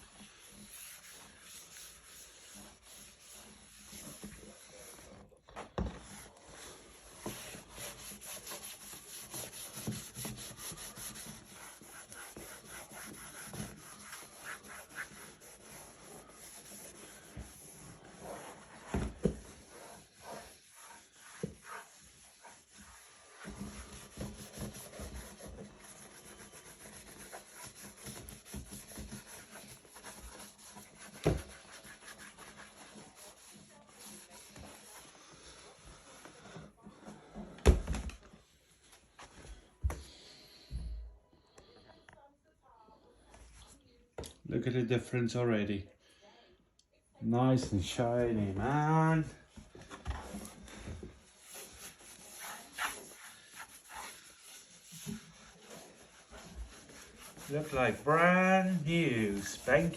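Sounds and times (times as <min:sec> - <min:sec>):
wipe rubbing on plastic: 0:00.0 - 0:37.4, 0:47.8 - 0:59.9.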